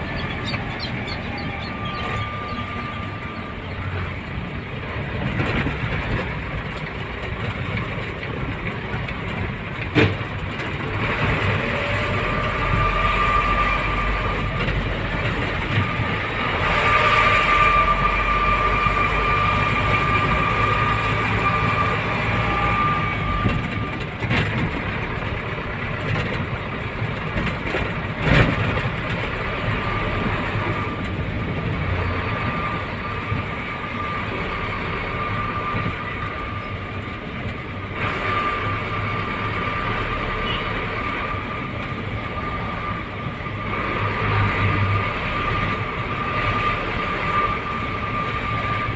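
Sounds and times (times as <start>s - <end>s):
truck engine and road noise: 0.0s - 48.9s.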